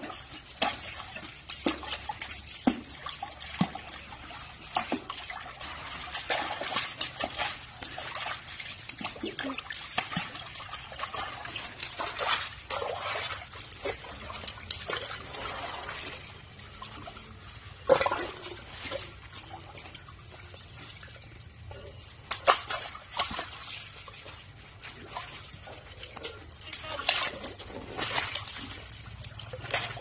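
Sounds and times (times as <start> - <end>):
water splashing in a plastic tub: 0.0 - 30.0.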